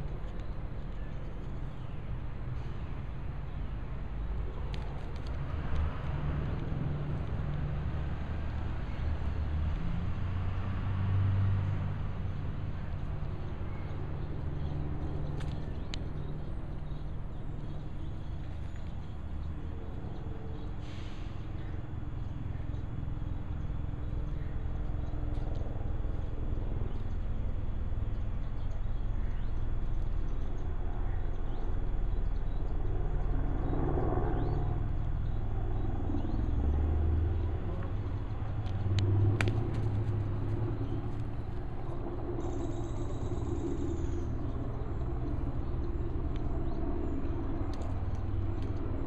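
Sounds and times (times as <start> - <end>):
low steady rumble: 0.0 - 10.6, 11.6 - 49.0.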